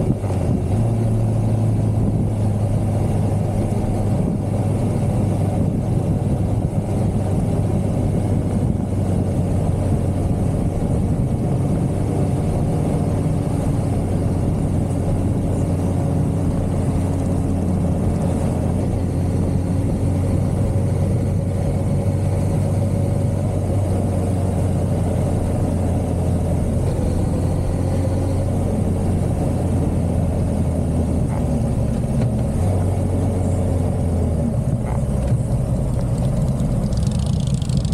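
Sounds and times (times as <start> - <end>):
motorcycle engine cruising: 0.0 - 37.9.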